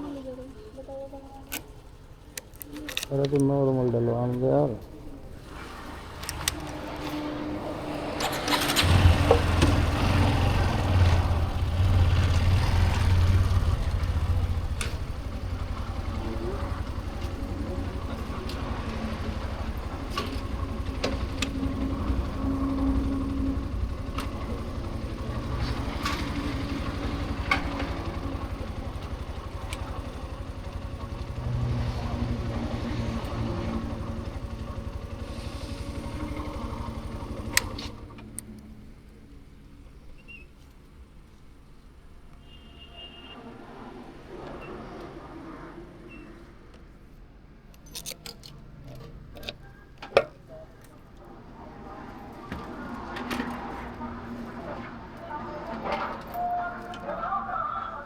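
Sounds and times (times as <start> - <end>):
motorcycle engine starting and running: 0.0 - 42.6, 47.9 - 58.0.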